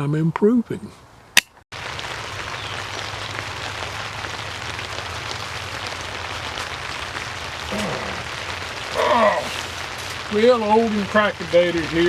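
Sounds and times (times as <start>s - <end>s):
rain on a tent roof: 1.7s - 12.0s.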